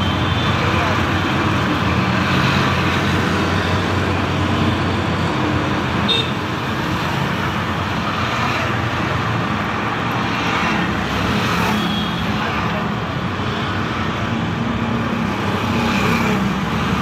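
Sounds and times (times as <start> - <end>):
passing road traffic: 0.0 - 17.0.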